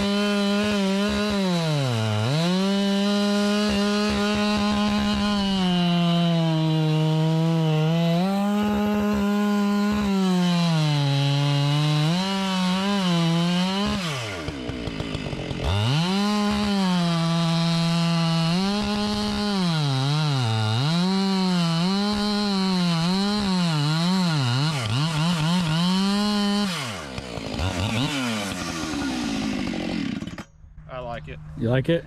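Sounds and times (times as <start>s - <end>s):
chainsaw cutting wood: 0.0s - 30.6s
chainsaw idling: 0.0s - 30.6s.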